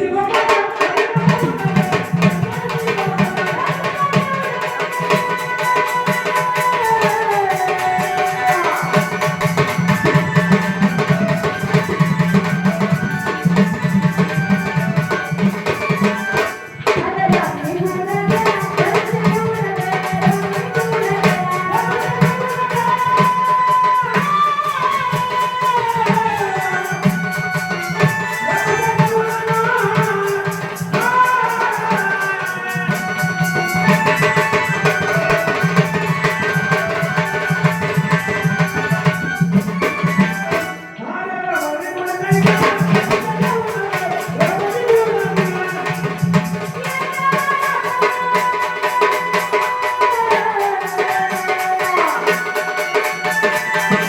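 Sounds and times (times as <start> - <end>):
hand drum: 0.0 - 40.8, 42.1 - 54.0
rattling percussion: 0.0 - 40.9, 41.6 - 54.0
woman singing: 0.0 - 54.0.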